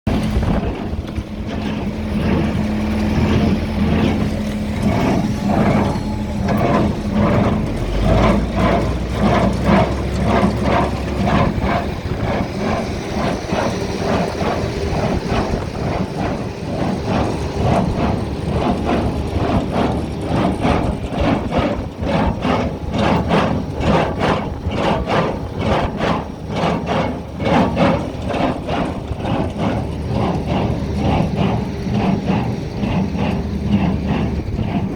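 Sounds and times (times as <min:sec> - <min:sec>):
tractor engine running: 0:00.0 - 0:34.9
baler mechanism clattering: 0:00.1 - 0:34.9.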